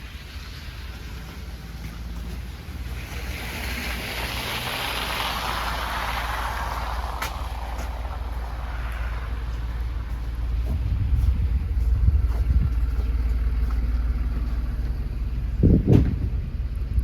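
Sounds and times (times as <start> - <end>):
vehicle tyres hissing on slush: 0.0 - 15.7
wind rumble on microphone: 2.5 - 17.0.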